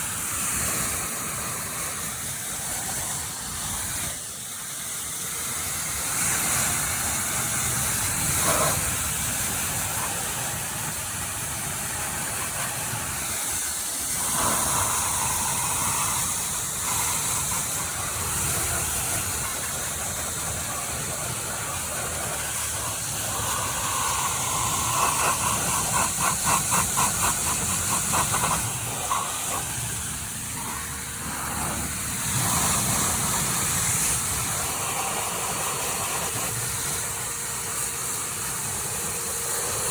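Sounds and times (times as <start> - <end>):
pressure washer motor humming: 0.0 - 39.9
water jet spraying: 0.0 - 39.9.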